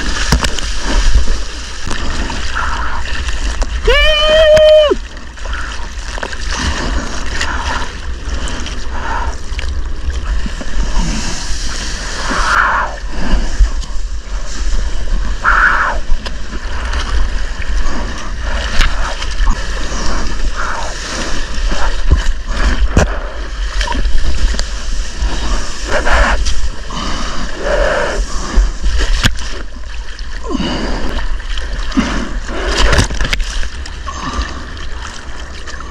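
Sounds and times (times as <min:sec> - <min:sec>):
low rumble: 0:00.0 - 0:35.9
water splashing around surfboard: 0:00.0 - 0:35.9.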